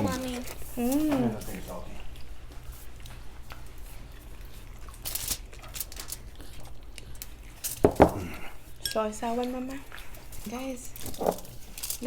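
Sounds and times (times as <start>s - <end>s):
chewing: 0.1s - 12.0s.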